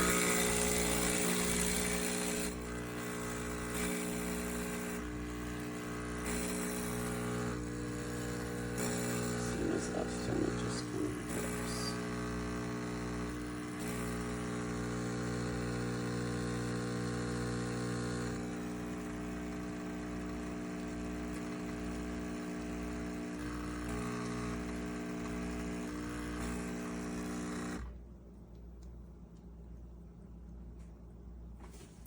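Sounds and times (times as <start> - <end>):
espresso machine pump buzzing: 0.0 - 28.0.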